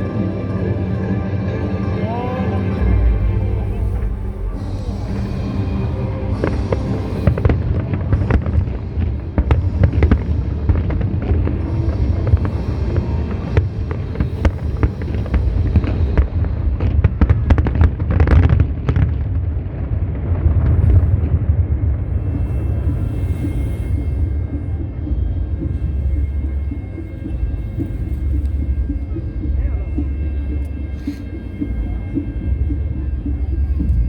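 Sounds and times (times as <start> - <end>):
background music: 0.0 - 34.0
low rumble: 0.0 - 34.0
fireworks bangs and crackles: 2.8 - 34.0.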